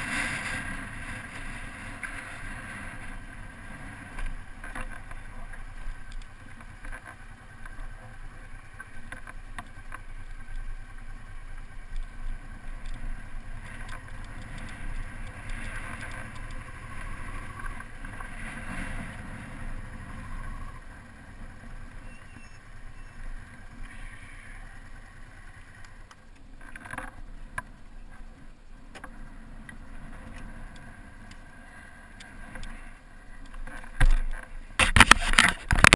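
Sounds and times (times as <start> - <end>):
motorcycle engine rumble: 0.0 - 35.9.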